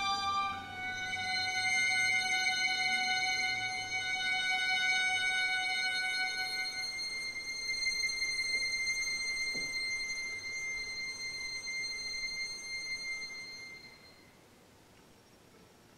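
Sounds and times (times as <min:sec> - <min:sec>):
violin high bowed note: 0:00.0 - 0:14.3.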